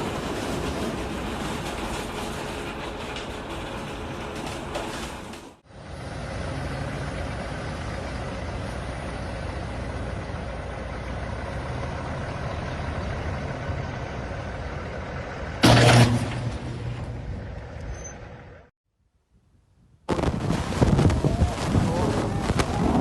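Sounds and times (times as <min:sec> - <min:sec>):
engine humming: 0:00.0 - 0:18.7.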